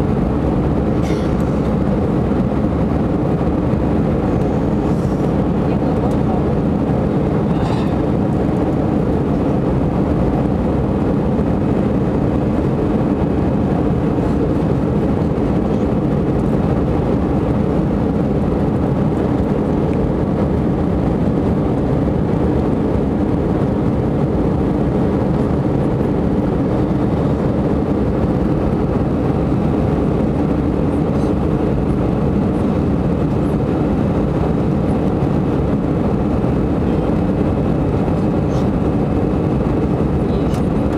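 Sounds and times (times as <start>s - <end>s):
jet engines and rushing air: 0.0s - 40.9s.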